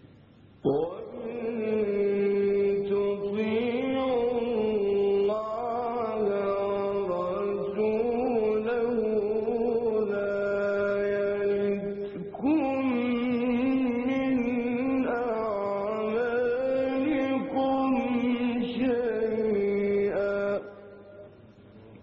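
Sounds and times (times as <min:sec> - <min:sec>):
man chanting melodically: 0:00.6 - 0:21.1.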